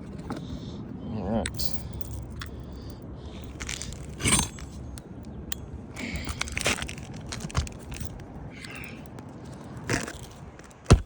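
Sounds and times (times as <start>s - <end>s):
light knocks and clinks: 1.4s - 11.0s
shingle rustling: 1.5s - 11.0s.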